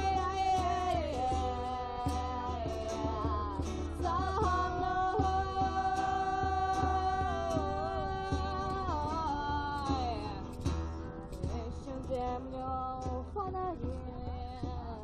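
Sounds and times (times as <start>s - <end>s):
held melody line with vibrato: 0.0s - 15.0s
strummed acoustic guitar: 0.0s - 15.0s.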